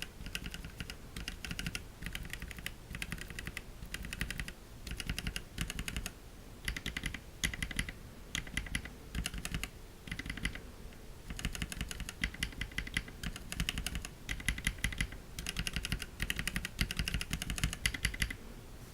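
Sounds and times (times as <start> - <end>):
mechanical keyboard typing: 0.0 - 10.6, 11.3 - 18.4.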